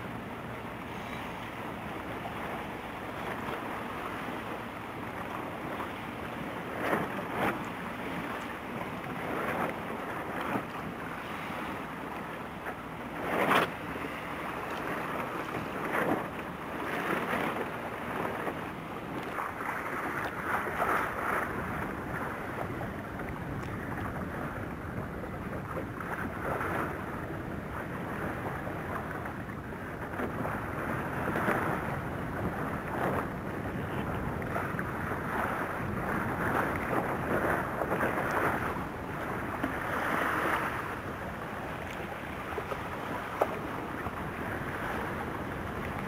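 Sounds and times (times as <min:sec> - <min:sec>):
water splashing and rushing: 0:00.0 - 0:46.0
wind buffeting microphone: 0:00.0 - 0:46.0.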